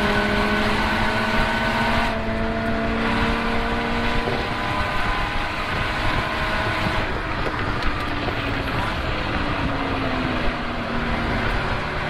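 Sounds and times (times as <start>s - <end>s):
car engine at speed: 0.0s - 12.0s
wind and road rumble: 0.0s - 12.0s.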